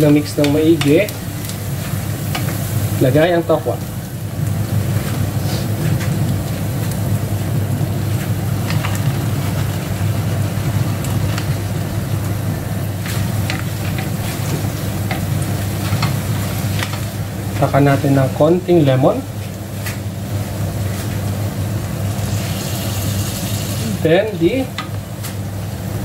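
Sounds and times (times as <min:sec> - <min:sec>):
steady low rumble: 0:00.0 - 0:26.0
tofu frying in a skillet: 0:00.0 - 0:26.0.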